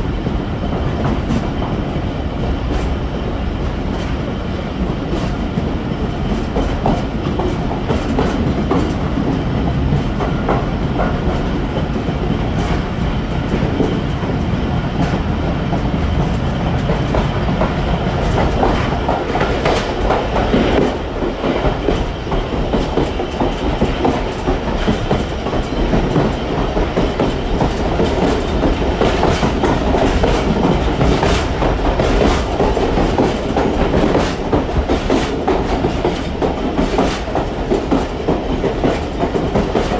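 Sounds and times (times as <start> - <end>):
train rumbling along track: 0.0 - 39.9.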